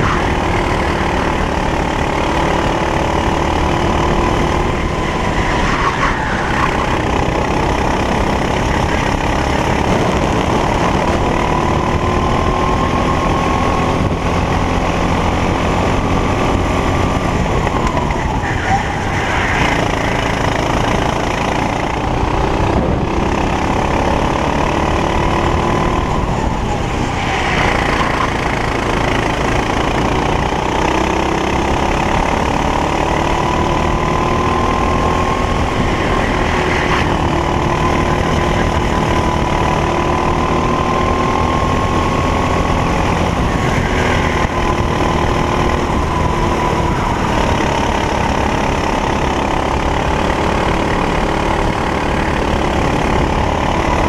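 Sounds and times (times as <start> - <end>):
kart engine revving: 0.0 - 54.0
wind and tyre noise: 0.0 - 54.0.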